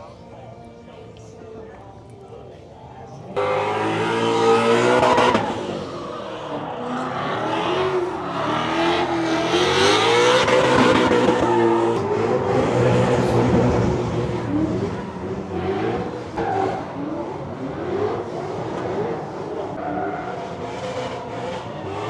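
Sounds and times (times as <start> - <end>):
car engine revving: 3.3 - 22.0.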